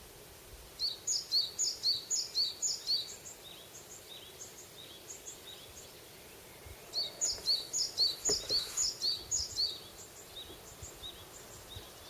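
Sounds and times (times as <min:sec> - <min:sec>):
faint bird chirps: 0:00.8 - 0:12.0.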